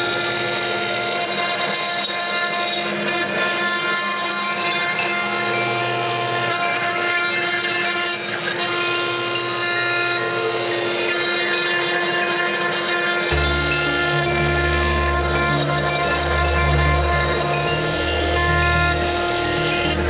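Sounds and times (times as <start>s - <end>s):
router spindle high whine: 0.0s - 20.0s.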